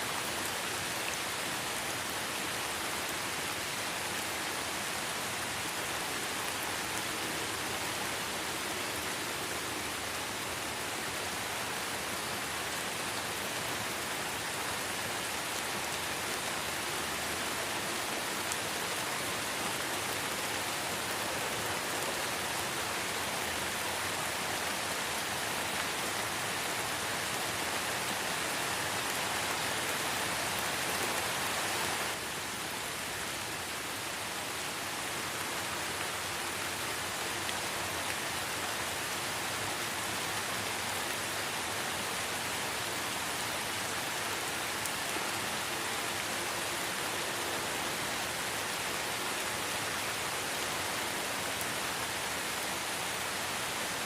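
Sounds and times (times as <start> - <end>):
light rain in a forest: 0.0 - 54.0.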